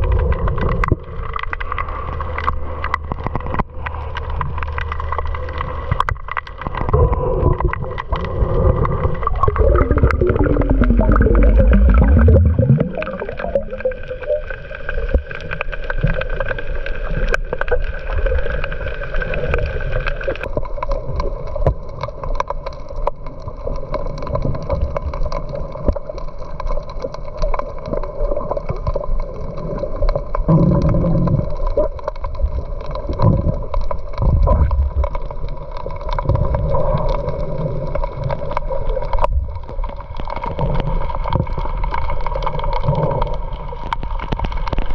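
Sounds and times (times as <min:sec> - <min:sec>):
water gurgling against hull: 0:00.0 - 0:44.9.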